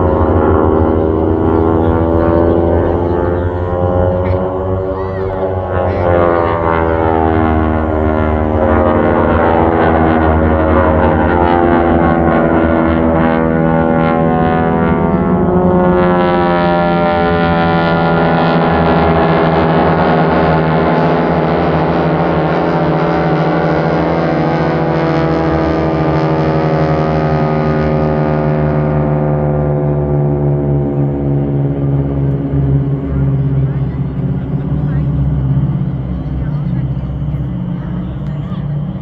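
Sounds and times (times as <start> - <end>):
propeller planes droning: 0.0 - 39.0.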